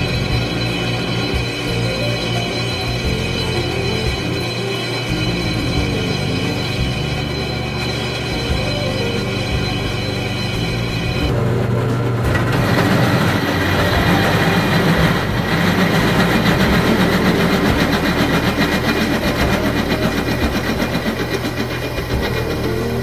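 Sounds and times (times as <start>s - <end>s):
drill bit grinding steel: 0.0s - 11.5s, 12.2s - 23.0s
drill press motor hum: 0.0s - 23.0s.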